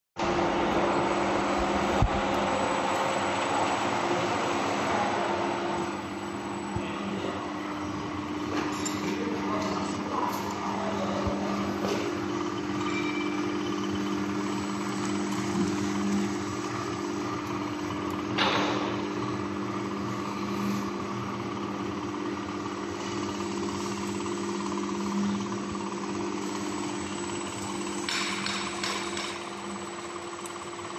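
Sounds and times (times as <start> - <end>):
electric motor hum: 0.2 - 8.6, 9.2 - 30.9.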